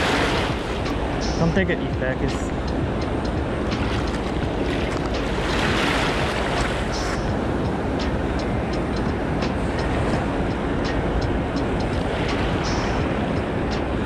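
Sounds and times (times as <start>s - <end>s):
surf washing: 0.0s - 14.0s
wind rumble on microphone: 0.0s - 14.0s.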